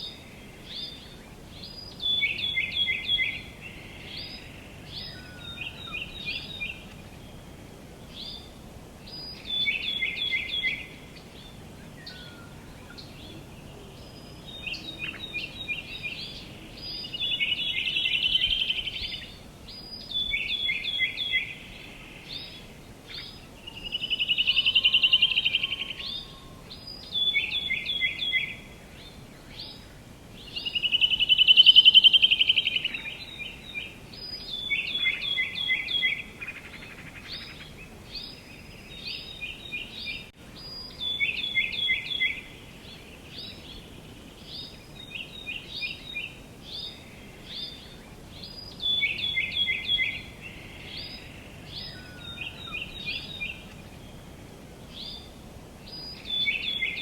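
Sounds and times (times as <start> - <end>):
faint outdoor noise: 0.0 - 57.0
songbirds chirping: 0.0 - 57.0.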